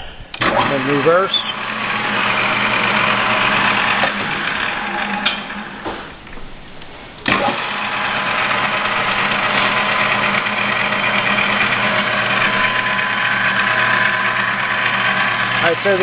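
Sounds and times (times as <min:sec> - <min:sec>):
lathe motor hum and whine: 0:00.4 - 0:05.9, 0:07.2 - 0:16.0
lathe winding down: 0:00.4 - 0:05.9, 0:07.2 - 0:16.0.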